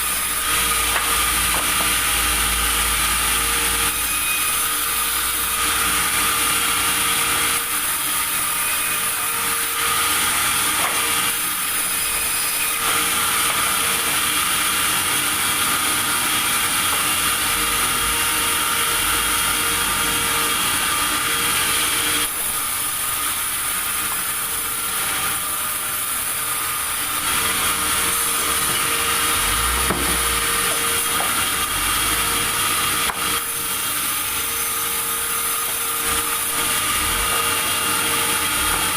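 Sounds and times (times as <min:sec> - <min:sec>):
saw cutting timber: 0:00.0 - 0:38.9.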